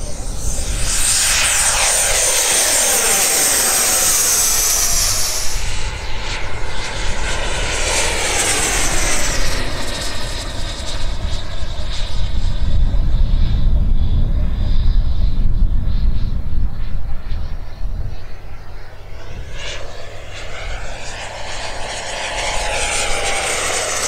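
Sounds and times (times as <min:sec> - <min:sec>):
model jet fan whine: 0:00.0 - 0:24.0.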